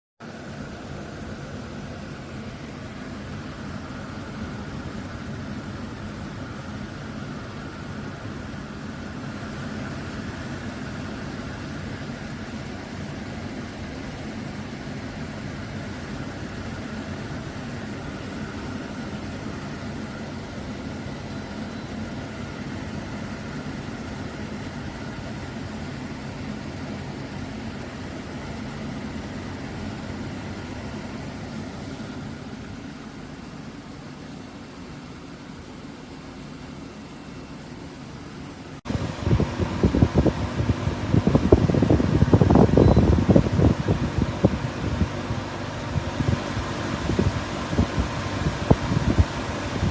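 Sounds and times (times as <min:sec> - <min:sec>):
air conditioner humming: 0:00.2 - 0:49.9.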